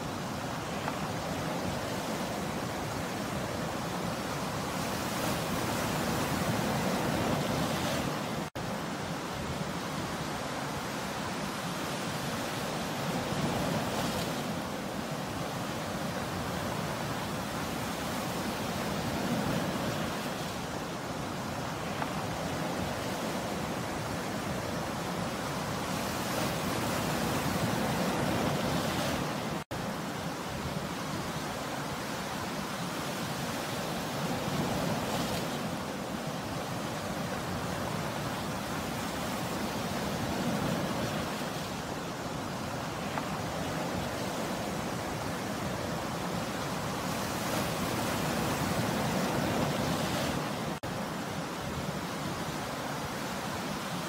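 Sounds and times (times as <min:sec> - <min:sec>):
waves breaking on rocky shore: 0:00.0 - 0:54.0.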